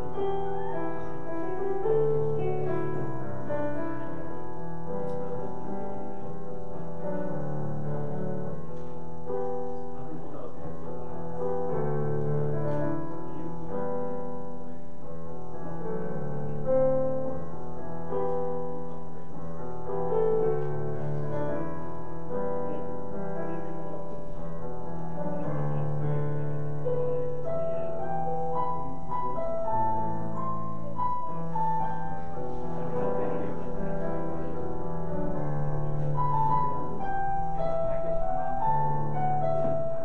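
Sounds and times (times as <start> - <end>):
slow keyboard music: 0.0 - 40.0.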